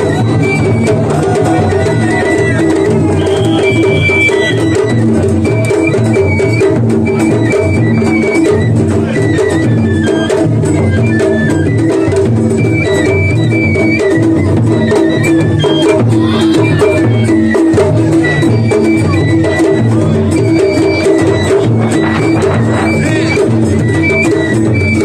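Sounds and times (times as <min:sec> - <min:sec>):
high bamboo flute melody: 0:00.0 - 0:25.0
taiko drums: 0:00.0 - 0:25.0.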